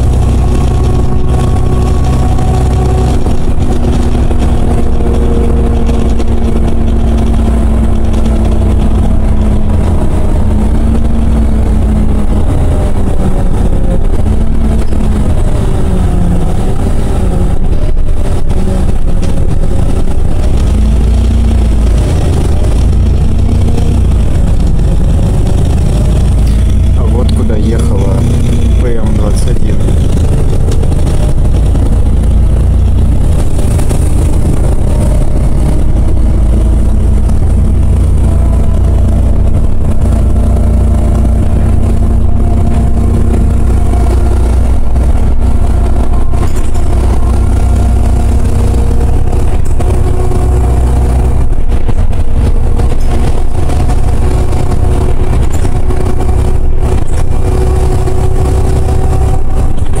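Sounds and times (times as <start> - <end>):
bus engine rumbling: 0.0 - 60.0.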